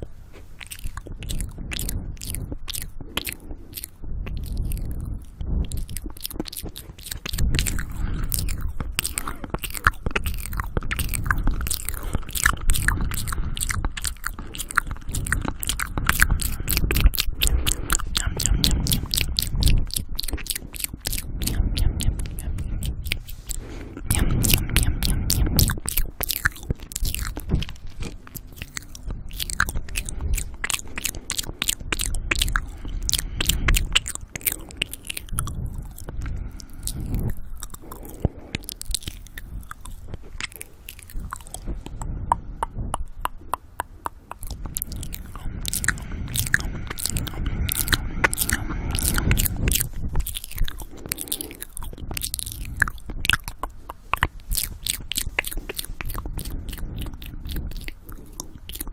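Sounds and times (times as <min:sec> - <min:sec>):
heavy breathing into microphone: 0:00.0 - 0:58.9
wet lip and tongue clicks: 0:00.0 - 0:58.9.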